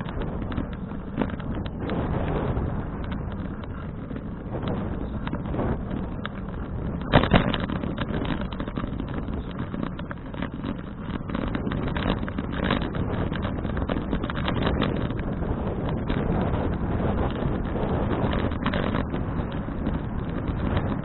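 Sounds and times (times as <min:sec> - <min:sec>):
bicycle bump: 0:00.0 - 0:21.0
bicycle knocks and rattles: 0:00.0 - 0:21.0
road rumble: 0:00.0 - 0:21.0
wind on microphone: 0:00.0 - 0:21.0.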